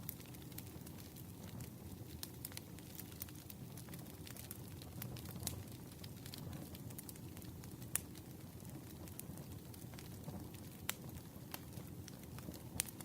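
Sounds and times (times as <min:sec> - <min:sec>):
campfire flames rumbling: 0:00.0 - 0:13.0
firewood crackling and popping: 0:00.0 - 0:13.0.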